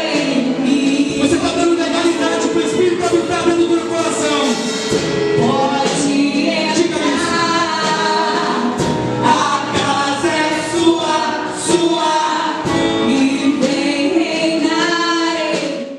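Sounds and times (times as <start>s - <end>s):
voices singing together: 0.0s - 4.6s, 5.3s - 15.9s
instrumental accompaniment: 0.0s - 15.9s.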